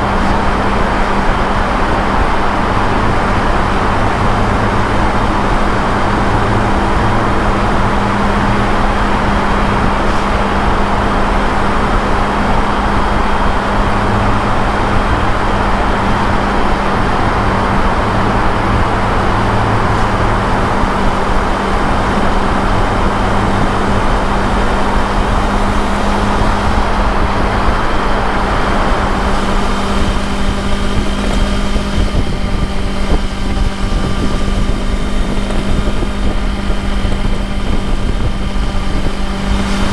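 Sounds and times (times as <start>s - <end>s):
motorcycle engine running: 0.0s - 39.9s
wind and road rush: 0.0s - 39.9s.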